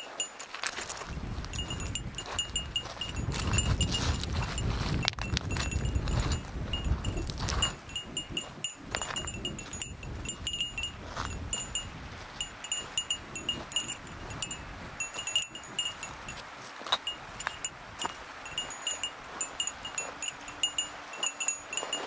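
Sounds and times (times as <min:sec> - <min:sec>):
footsteps crunching on stones: 0:00.0 - 0:22.0
small metal bell jingling: 0:00.0 - 0:22.0
wind rumbling on microphone: 0:00.4 - 0:22.0.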